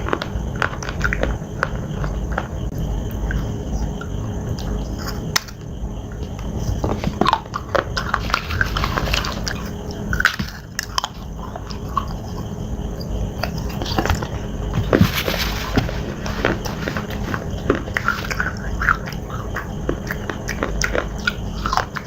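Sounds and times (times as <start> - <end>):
slate crunching between teeth: 0.0 - 3.5, 4.6 - 22.0.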